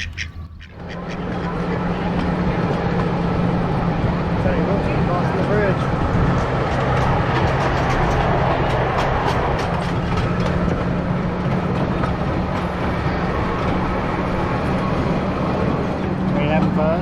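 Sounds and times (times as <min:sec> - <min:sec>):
train engine drone: 0:00.0 - 0:17.0
wheels clicking over rails: 0:00.0 - 0:17.0.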